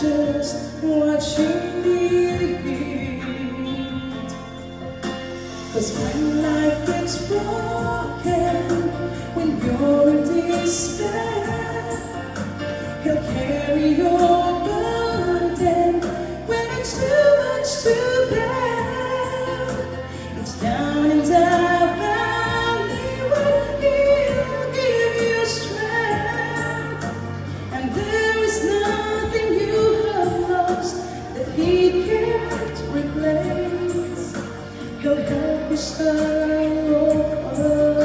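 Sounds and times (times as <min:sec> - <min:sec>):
woman singing gospel song: 0:00.0 - 0:04.5, 0:05.4 - 0:38.0.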